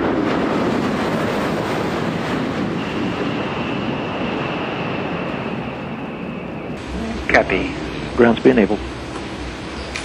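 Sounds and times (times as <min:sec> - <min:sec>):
wind on microphone: 0:00.0 - 0:08.2
space shuttle rolling on runway: 0:00.0 - 0:10.0.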